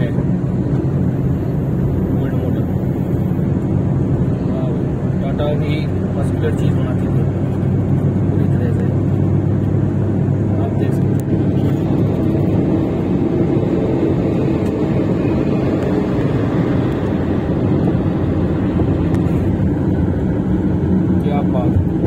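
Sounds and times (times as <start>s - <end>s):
road and wind noise in car: 0.0s - 22.0s
truck driving alongside: 0.0s - 22.0s.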